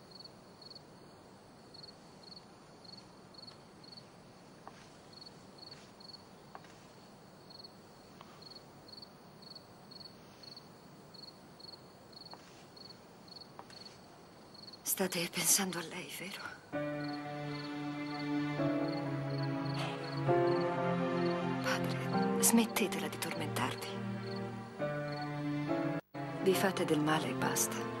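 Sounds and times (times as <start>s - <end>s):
faint crickets chirping: 0.0s - 28.0s
low background hiss: 0.0s - 28.0s.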